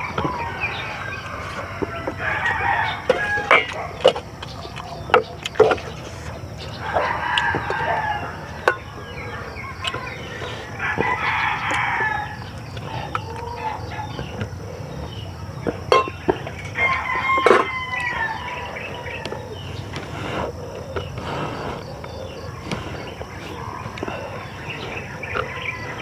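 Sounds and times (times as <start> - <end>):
rooster crowing: 0.0 - 5.0, 6.4 - 14.4, 15.1 - 19.8, 22.1 - 26.0.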